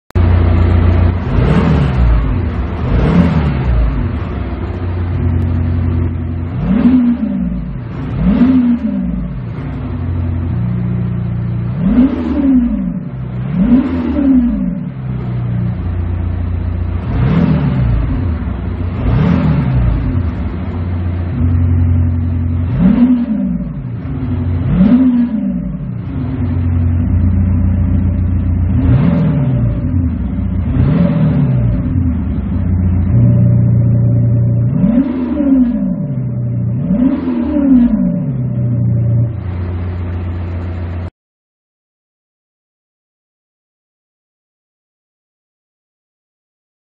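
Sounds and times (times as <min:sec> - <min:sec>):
car engine revving: 0:00.1 - 0:41.1.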